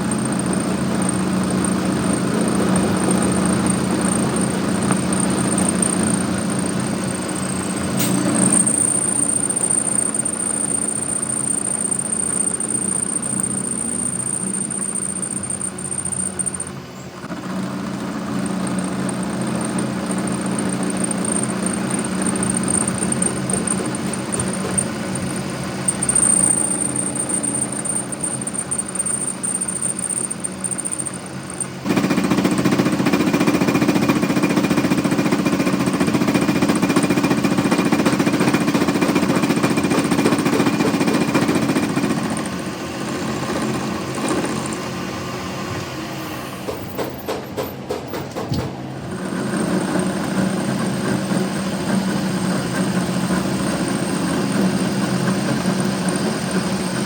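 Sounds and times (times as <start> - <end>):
machine noise: 0.0 - 57.0.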